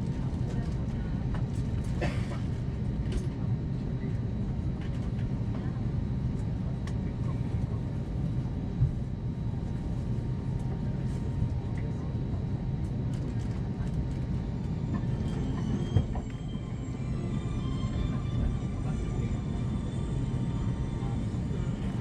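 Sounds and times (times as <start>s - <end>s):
low rumble in aircraft cabin: 0.0s - 22.0s.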